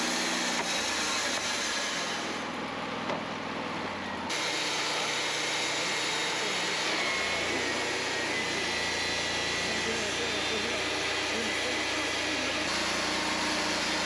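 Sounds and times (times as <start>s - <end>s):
band sawmill running: 0.0s - 14.0s.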